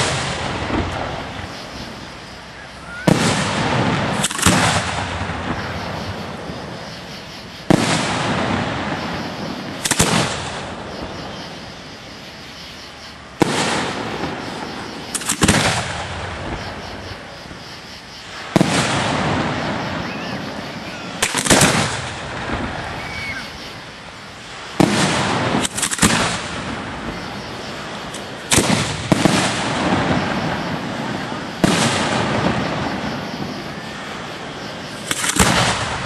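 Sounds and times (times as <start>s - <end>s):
firework bangs with echo: 0.0s - 11.8s, 13.3s - 17.6s, 18.2s - 23.5s, 24.4s - 36.0s
firework crackling: 0.0s - 36.0s.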